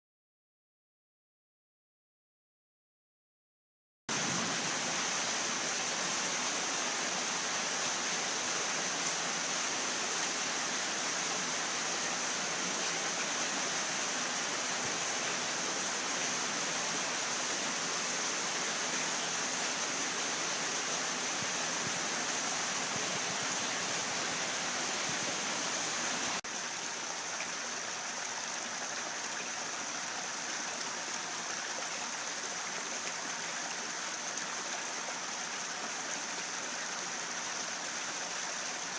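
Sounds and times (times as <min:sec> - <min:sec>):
running water rushing: 0:04.1 - 0:38.9.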